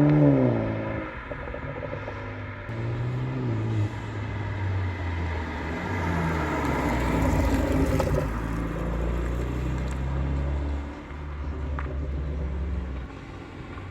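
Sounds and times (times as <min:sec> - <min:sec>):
car exhaust engine note: 0:00.0 - 0:13.7.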